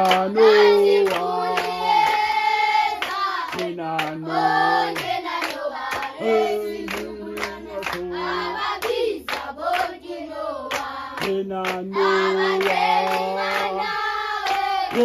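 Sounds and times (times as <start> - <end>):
children singing a hymn: 0.0 - 3.6, 4.2 - 11.2, 11.9 - 15.0
clapping along: 0.0 - 15.0.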